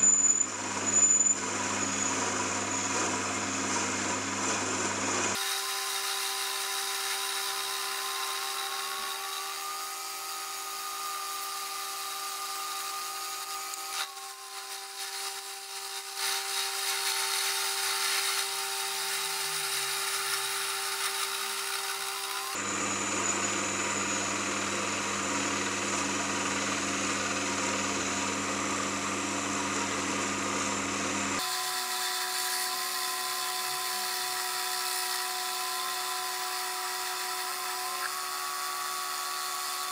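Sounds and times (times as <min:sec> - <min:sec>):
lathe cutting metal: 0:00.0 - 0:39.9
lathe motor whine: 0:00.0 - 0:39.9.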